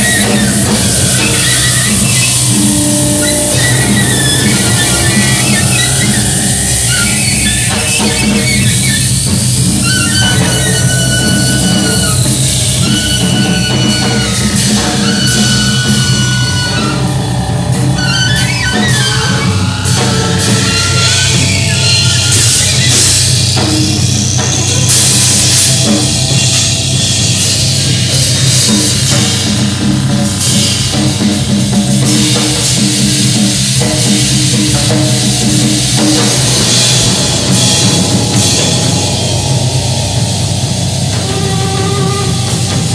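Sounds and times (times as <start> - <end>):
sweeping tone: 0.0 - 29.4, 34.8 - 42.9
electronic drones: 0.0 - 31.7, 32.7 - 42.9
drum kit with cymbal hits: 0.0 - 42.9.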